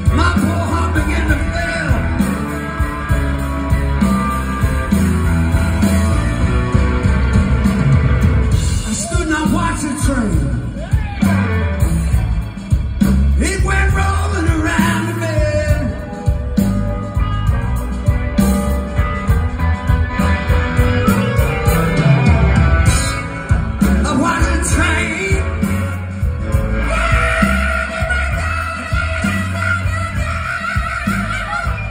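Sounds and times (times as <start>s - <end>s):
blues-rock band playing: 0.0s - 31.9s.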